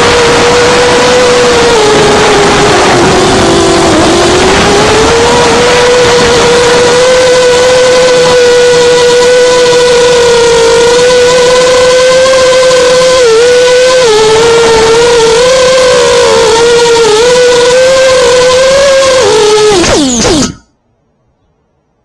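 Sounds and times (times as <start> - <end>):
drone motors whining: 0.0 - 20.7.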